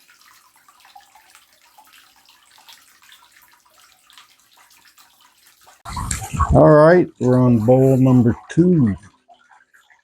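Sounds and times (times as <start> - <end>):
water trickling and splashing: 0.0 - 10.0.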